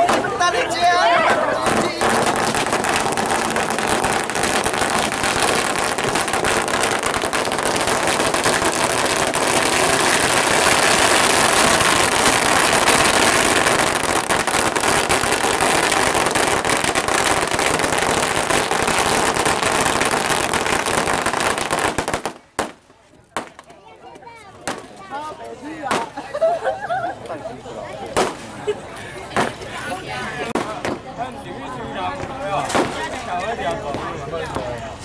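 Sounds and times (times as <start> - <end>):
firecrackers crackling: 0.0 - 26.5, 28.1 - 31.3, 32.2 - 34.6.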